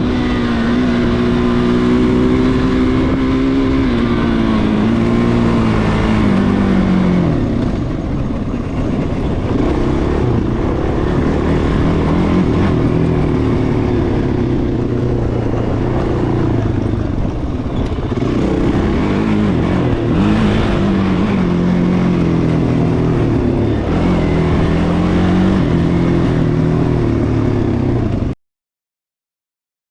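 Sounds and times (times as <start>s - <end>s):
off-road vehicle engine revving: 0.0s - 28.3s.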